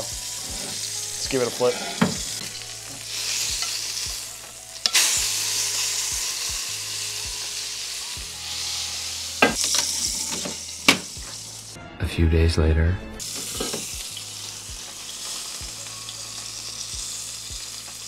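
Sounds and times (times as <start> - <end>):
steak sizzling in a pan: 0.0 - 11.8, 13.2 - 18.0.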